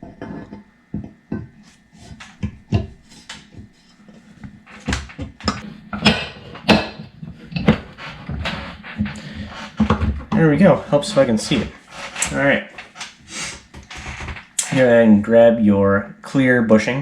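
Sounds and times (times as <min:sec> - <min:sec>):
parts clicking and knocking: 0:00.0 - 0:14.8.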